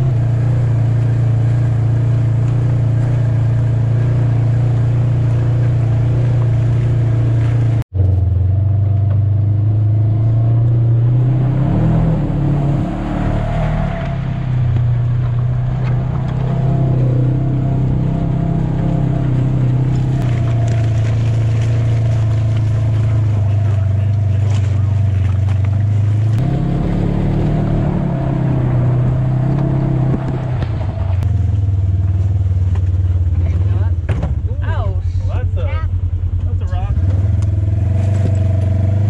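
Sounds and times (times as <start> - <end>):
vehicle engine running: 0.0 - 39.0.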